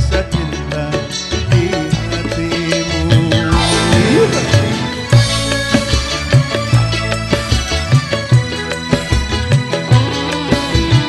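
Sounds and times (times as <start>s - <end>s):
bass: 0.0s - 11.0s
drums keeping steady beat: 0.0s - 11.0s
melodic lead with sliding notes: 2.1s - 11.0s.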